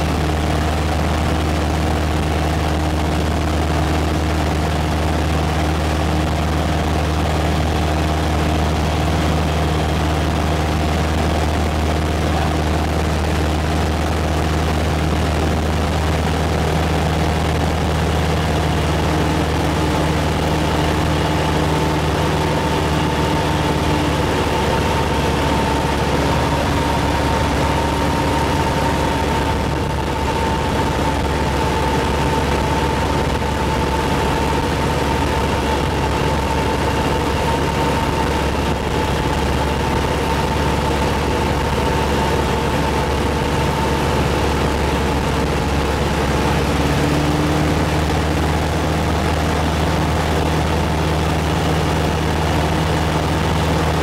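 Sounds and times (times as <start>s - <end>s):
higher whine: 0.0s - 54.0s
propeller aircraft engine drone: 0.0s - 54.0s
wind noise: 0.0s - 54.0s.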